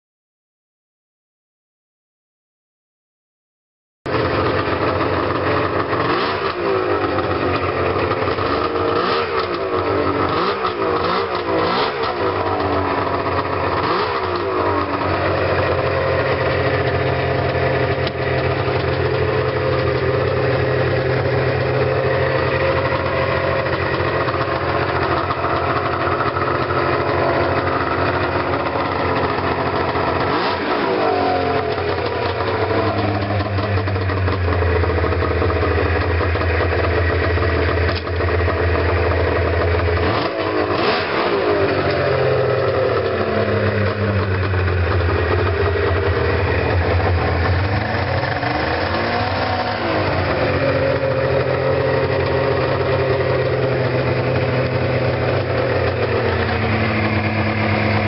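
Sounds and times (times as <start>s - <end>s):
snowmobile engine revving and idling: 4.1s - 58.0s.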